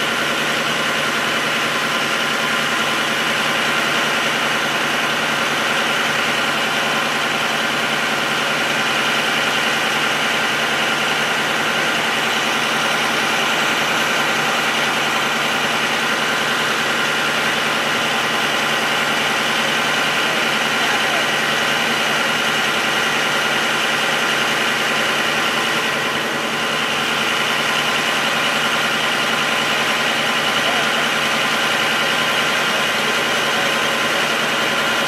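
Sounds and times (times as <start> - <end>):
machine droning: 0.0 - 35.0.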